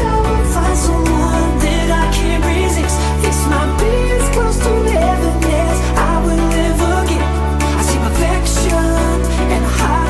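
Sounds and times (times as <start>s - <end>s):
pop song with sung melody: 0.0s - 10.0s.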